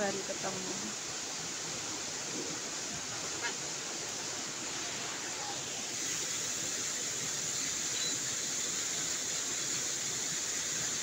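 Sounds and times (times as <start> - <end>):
waterfall pouring over rocks: 0.0 - 11.0.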